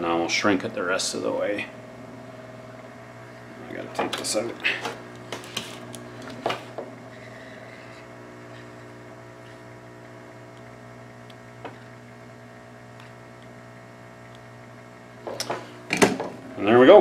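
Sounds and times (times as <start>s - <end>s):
heat gun humming: 0.0s - 16.8s.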